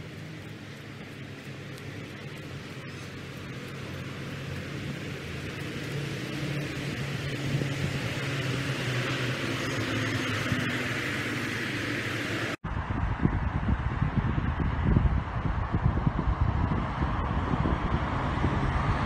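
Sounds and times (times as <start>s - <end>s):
tyres hissing on wet road: 0.0s - 12.6s, 15.9s - 19.0s
heavy vehicle engine drone: 0.0s - 19.0s
wind buffeting microphone: 0.0s - 19.0s.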